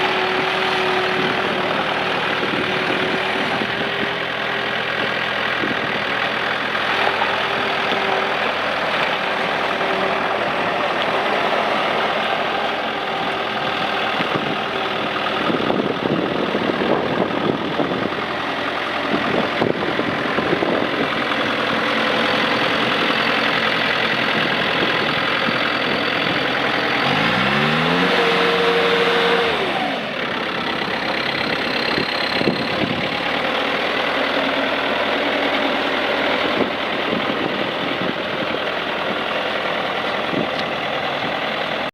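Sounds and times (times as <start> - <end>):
diesel engine running and revving: 0.0 - 41.9.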